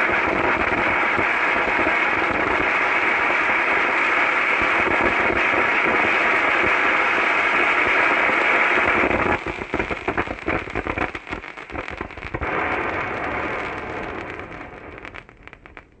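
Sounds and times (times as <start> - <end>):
fountain firework hissing and crackling: 0.0 - 16.0.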